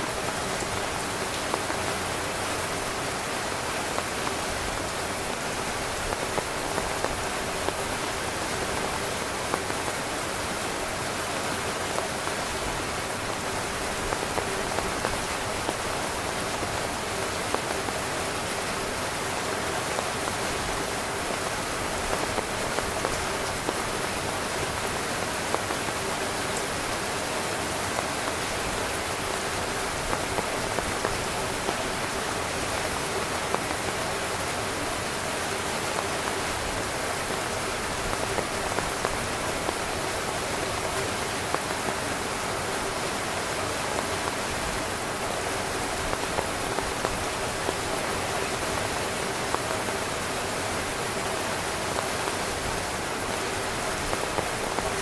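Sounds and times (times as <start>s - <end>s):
heavy rain on tent fabric: 0.0s - 55.0s.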